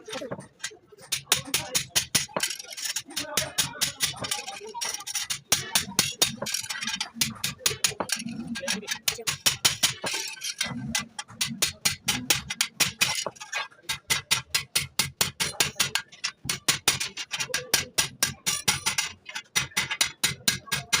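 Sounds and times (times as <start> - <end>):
hammer tapping on metal: 0.1 - 21.0.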